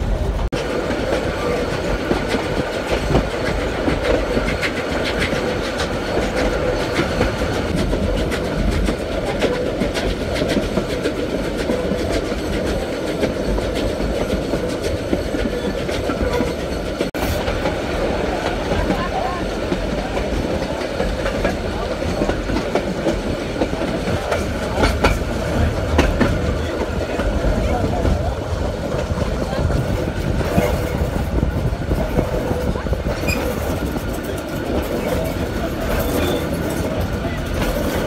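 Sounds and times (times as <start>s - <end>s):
train rumbling on rails: 0.0s - 38.0s
wheels clicking over rail joints: 0.5s - 38.0s.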